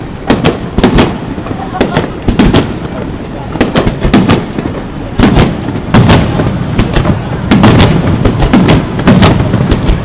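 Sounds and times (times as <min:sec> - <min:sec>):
firework shells booming: 0:00.0 - 0:10.0.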